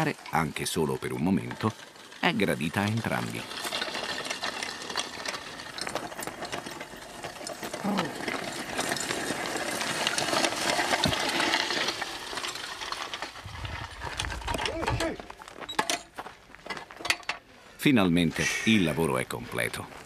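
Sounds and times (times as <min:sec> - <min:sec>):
plough scraping through stony soil: 0:00.0 - 0:17.1
small clicks and rattles: 0:00.0 - 0:17.4.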